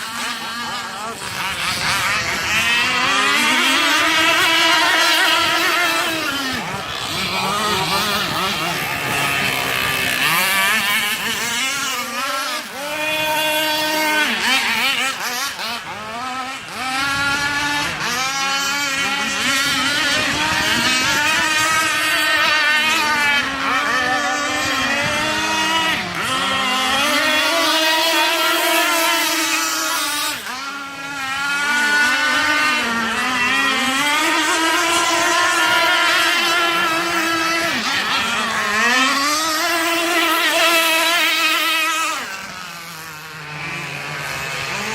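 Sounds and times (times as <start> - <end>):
small boat engine revving: 0.0 - 44.9.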